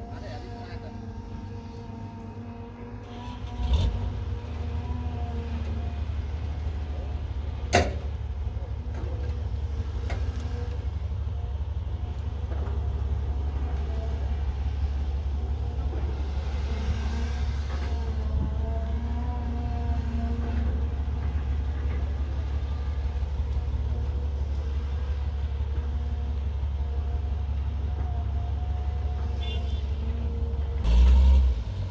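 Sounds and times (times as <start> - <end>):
diesel engine droning: 0.0 - 31.9.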